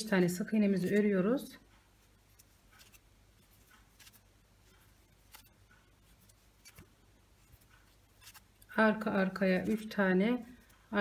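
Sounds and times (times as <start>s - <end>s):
crochet hook ticking and rustling: 0.5s - 10.9s.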